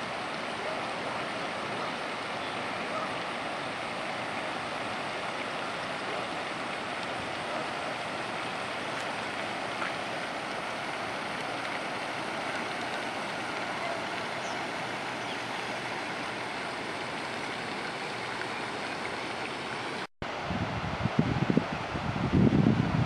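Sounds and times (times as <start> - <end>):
rushing floodwater: 0.0 - 23.0.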